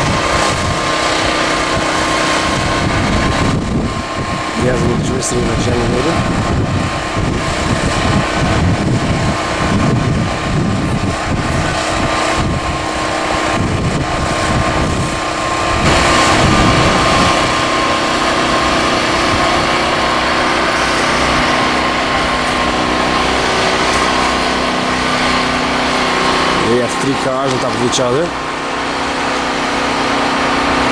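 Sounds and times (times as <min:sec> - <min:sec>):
generator engine drone: 0:00.0 - 0:30.9.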